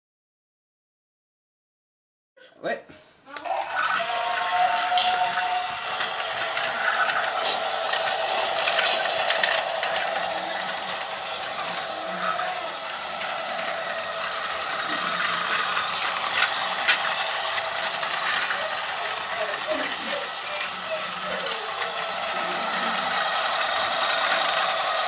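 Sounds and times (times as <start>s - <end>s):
toy train motor whirring: 3.3s - 25.0s.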